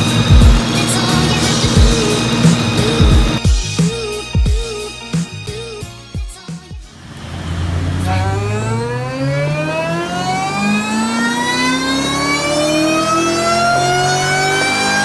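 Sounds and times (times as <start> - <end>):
engine pulling hard under load: 0.0 - 4.0, 6.9 - 15.0
high supercharger whine: 0.0 - 6.1, 6.8 - 15.0.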